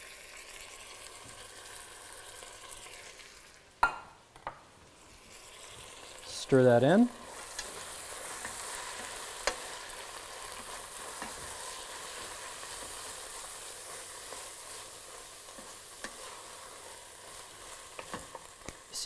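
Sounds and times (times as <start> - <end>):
vegetables sizzling in a pot: 0.0 - 19.0.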